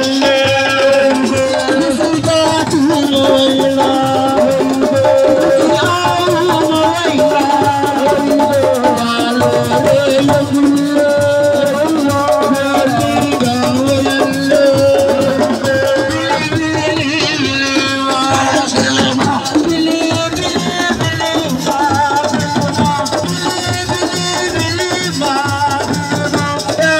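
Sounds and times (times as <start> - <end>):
percussion: 0.0 - 26.9
shaker-like rattle: 0.0 - 26.9.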